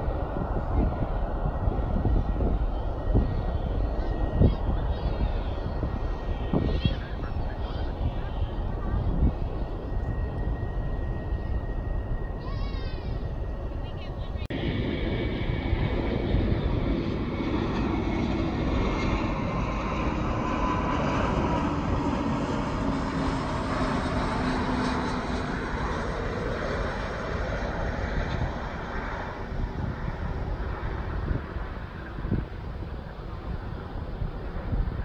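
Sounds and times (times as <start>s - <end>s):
jet airliner flying past: 0.0s - 35.0s.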